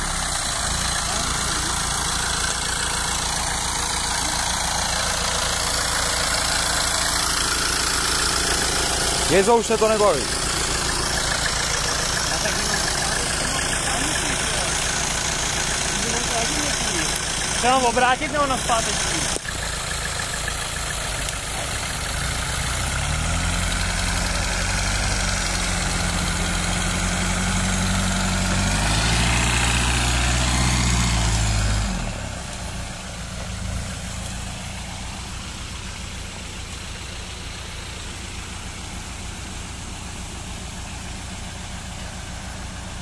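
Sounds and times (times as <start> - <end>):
tractor engine revving: 0.0 - 43.0.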